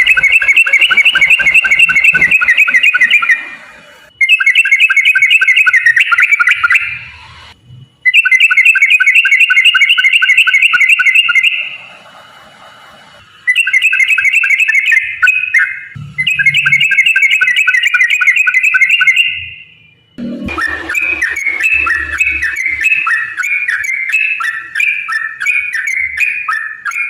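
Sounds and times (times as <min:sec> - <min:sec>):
bird singing bubbly whistles: 0:00.0 - 0:07.2, 0:08.1 - 0:11.9, 0:13.4 - 0:19.6, 0:20.5 - 0:27.0.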